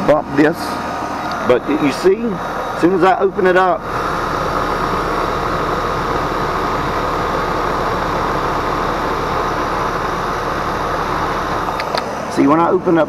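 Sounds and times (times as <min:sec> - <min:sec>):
air conditioner unit running: 0:00.0 - 0:13.0.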